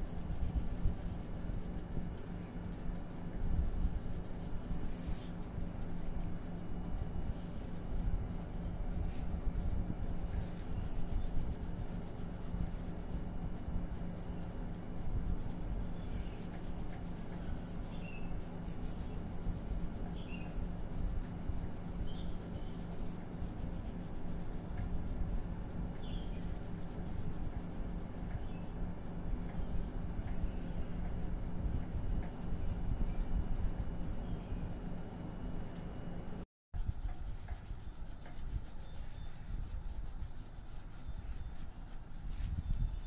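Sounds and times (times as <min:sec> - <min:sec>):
pencil strokes rubbing on paper: 0:00.0 - 0:02.5, 0:03.5 - 0:06.4, 0:07.0 - 0:34.2, 0:36.8 - 0:43.0
low steady hum: 0:00.0 - 0:43.0.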